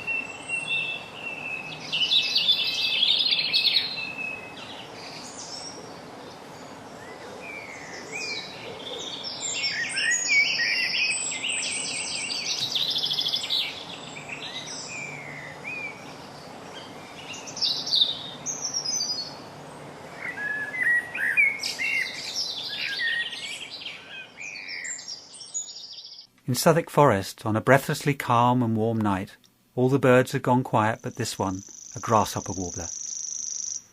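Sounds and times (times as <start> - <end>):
blackbird singing: 0.0 - 26.3, 29.8 - 33.9
chaffinch song trills: 0.0 - 33.9.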